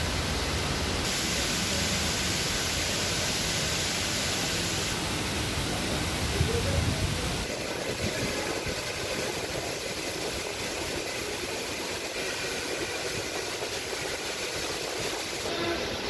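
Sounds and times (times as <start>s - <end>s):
traffic engines: 0.0s - 13.0s
rain hissing: 0.0s - 16.0s.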